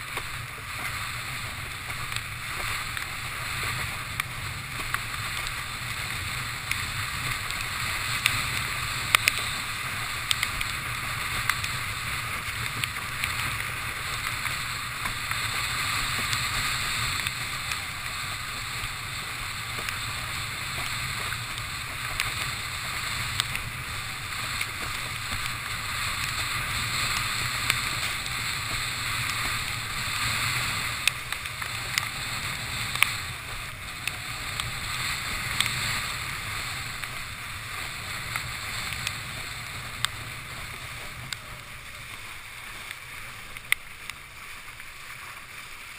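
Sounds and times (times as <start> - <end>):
board slapping water: 0.0 - 45.9
water rushing and spraying: 0.0 - 45.9.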